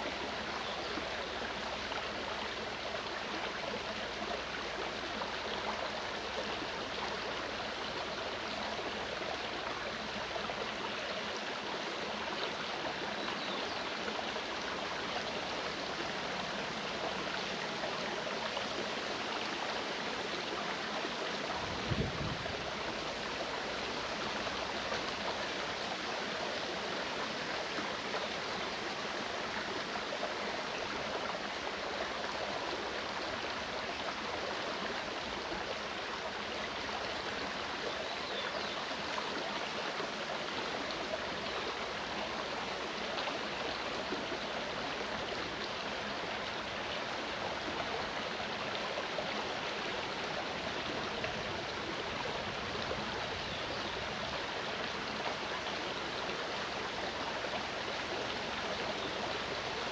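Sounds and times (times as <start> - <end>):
mountain stream flowing: 0.0 - 59.9.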